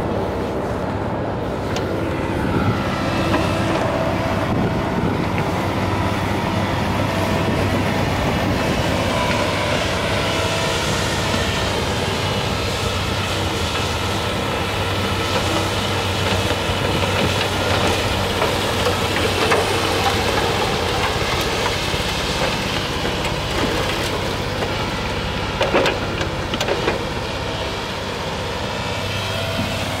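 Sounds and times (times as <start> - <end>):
excavator diesel engine: 0.0 - 30.0.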